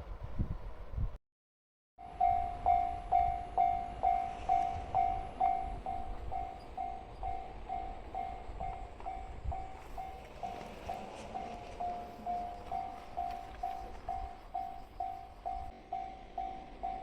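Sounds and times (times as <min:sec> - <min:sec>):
level-crossing warning bell: 0:02.0 - 0:17.0.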